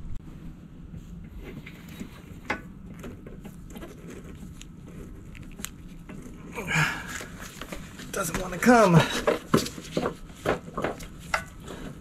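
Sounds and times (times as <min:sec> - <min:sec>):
low steady hum: 0:00.0 - 0:12.0
hand tools clicking and scraping: 0:01.5 - 0:12.0.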